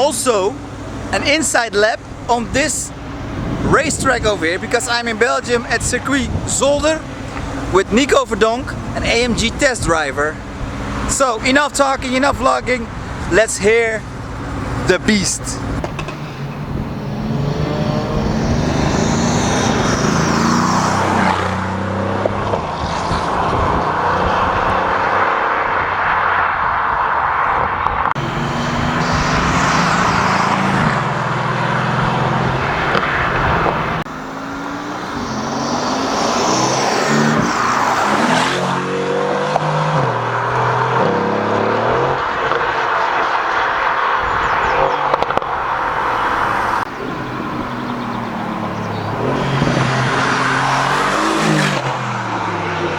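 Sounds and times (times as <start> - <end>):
car engine revving through gears: 2.0 - 9.8, 10.4 - 13.4, 14.0 - 52.9.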